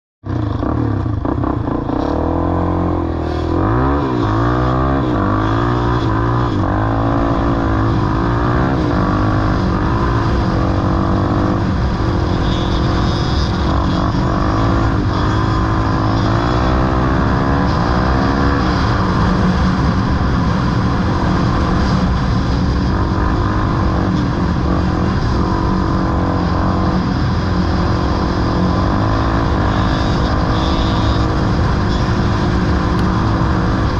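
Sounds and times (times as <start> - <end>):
atv engine revving: 0.3 - 33.9.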